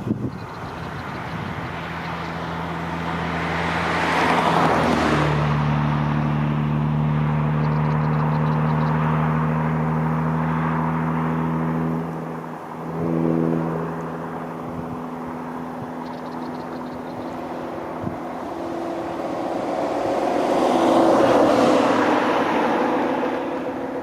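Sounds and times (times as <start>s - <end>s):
aircraft engine passing: 0.0s - 24.0s.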